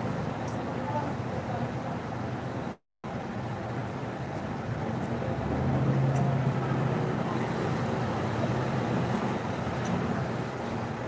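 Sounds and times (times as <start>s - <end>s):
vehicle engine and traffic hum: 0.0s - 11.0s.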